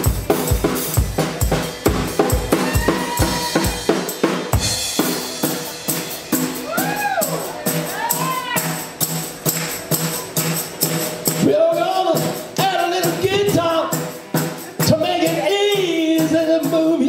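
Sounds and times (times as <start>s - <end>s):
drums beating: 0.0s - 17.0s
live rock band playing: 0.0s - 17.0s.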